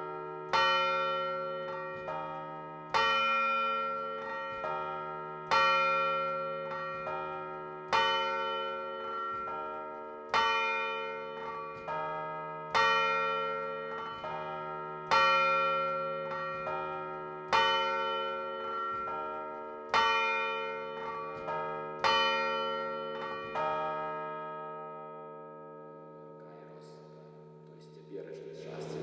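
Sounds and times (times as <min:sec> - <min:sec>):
large church bell ringing: 0:00.0 - 0:29.0.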